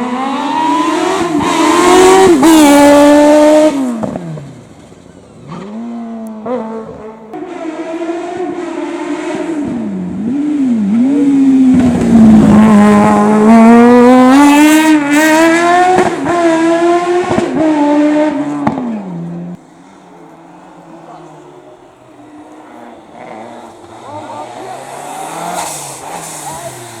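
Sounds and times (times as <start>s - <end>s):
racing car engine revving: 0.0s - 27.0s.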